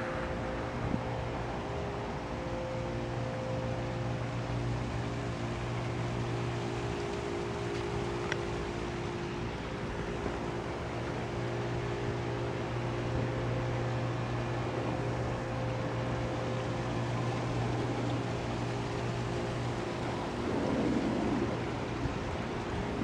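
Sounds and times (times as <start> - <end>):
constant hiss: 0.0 - 23.0
faint steady tones: 0.0 - 23.0
low mechanical hum: 0.0 - 23.0.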